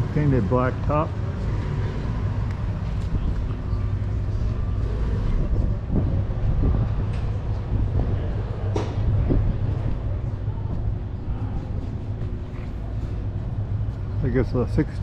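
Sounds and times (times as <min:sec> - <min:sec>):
low rumble: 0:00.0 - 0:14.2
distant voices: 0:00.0 - 0:15.0.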